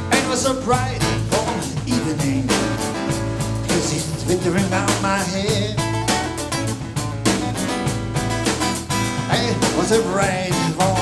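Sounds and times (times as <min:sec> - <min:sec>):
acoustic guitar strumming: 0:00.0 - 0:11.0
bass and drums: 0:00.0 - 0:11.0.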